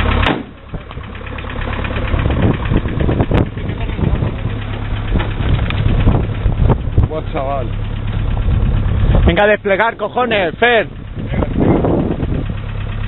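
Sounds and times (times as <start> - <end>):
jeep engine idling: 0.0 - 13.0.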